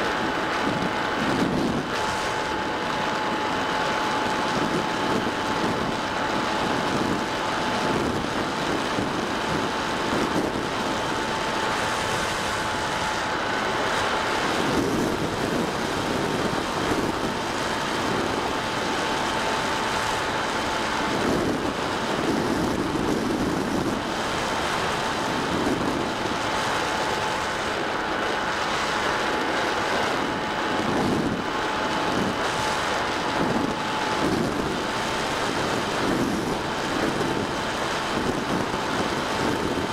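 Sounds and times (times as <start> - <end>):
motor and propeller whine: 0.0 - 39.9
wind rushing over microphone: 0.0 - 39.9.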